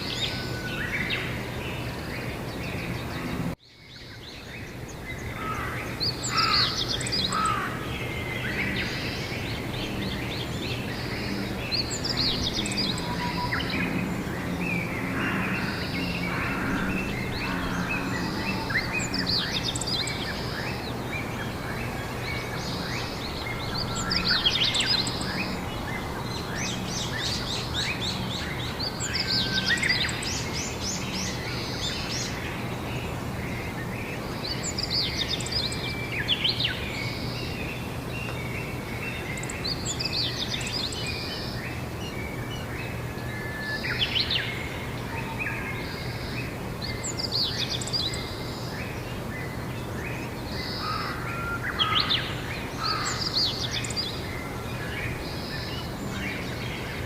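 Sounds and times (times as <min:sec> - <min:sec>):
low hum and hiss: 0:00.0 - 0:57.0
songbirds singing: 0:00.0 - 0:57.0.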